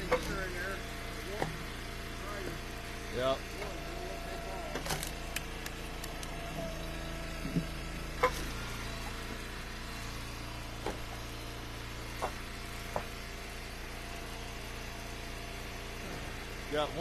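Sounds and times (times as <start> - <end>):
log splitter engine running: 0.0 - 17.0.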